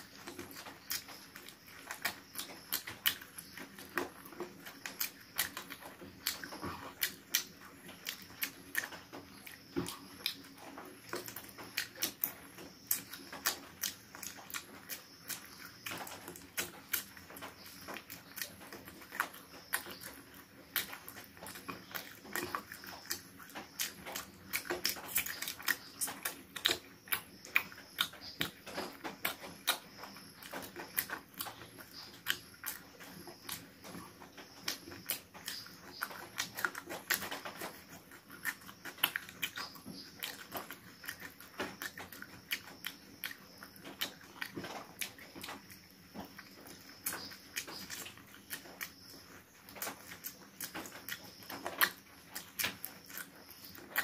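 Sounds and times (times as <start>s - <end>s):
man chewing and smacking: 0.0s - 54.0s.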